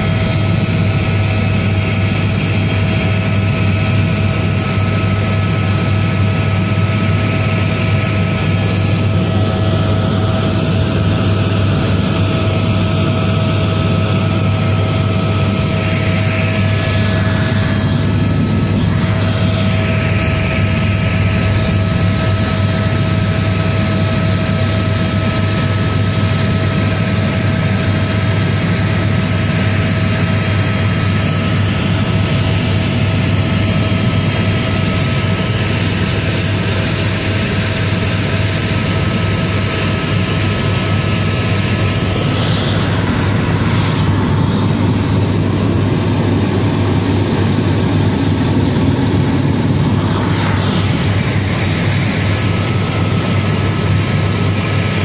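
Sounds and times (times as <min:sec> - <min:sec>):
helicopter drone inside cabin: 0:00.0 - 0:55.0
thin steady whine: 0:00.0 - 0:55.0.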